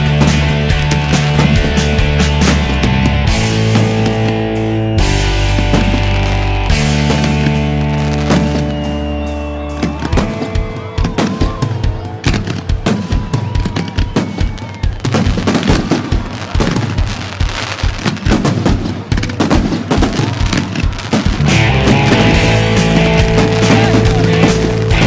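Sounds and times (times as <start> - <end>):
music playing: 0.0 - 19.4, 20.4 - 25.0
firework bangs: 0.0 - 25.0.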